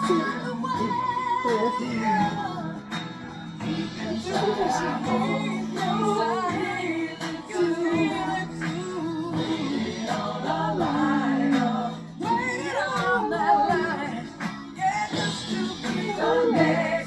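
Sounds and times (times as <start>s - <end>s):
song with sung vocals: 0.0s - 17.0s.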